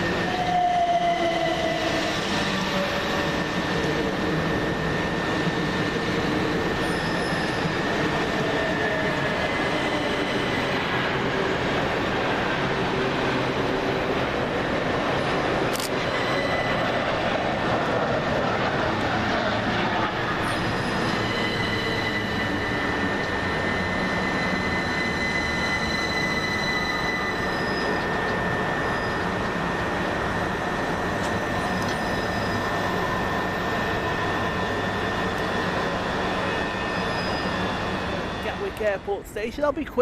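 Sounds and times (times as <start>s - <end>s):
wheels squealing on rail: 0.0s - 11.7s, 15.9s - 17.3s, 19.7s - 38.7s.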